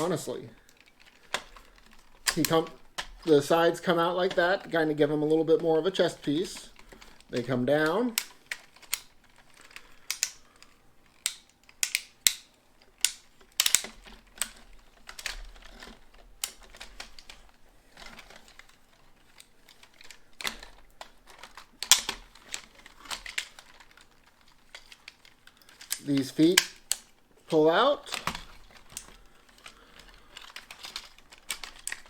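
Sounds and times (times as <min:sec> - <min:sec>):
plastic toy parts clicking: 0:00.0 - 0:32.0.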